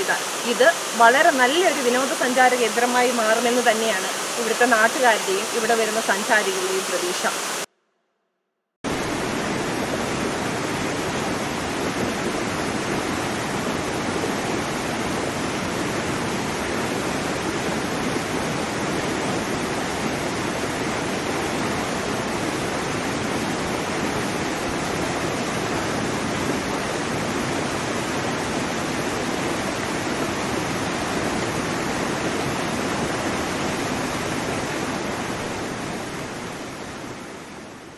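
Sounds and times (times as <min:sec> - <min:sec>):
waterfall rushing: 0:00.0 - 0:07.7, 0:08.9 - 0:37.9.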